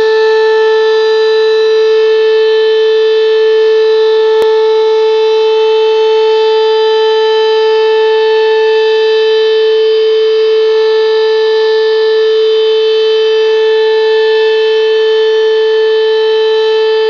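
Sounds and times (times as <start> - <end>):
fire alarm siren: 0.0 - 17.0.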